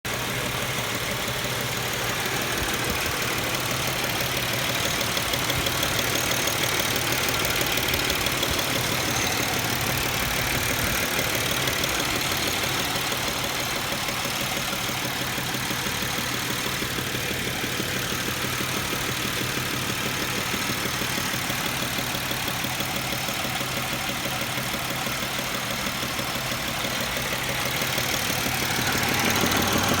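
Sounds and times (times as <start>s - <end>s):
car engine idling: 0.0s - 30.0s
rapid engine knocking: 0.0s - 30.0s.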